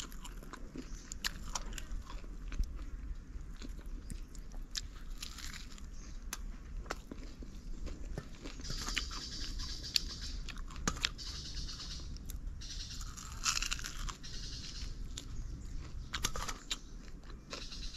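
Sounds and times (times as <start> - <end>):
crunchy chewing: 0.0 - 17.9.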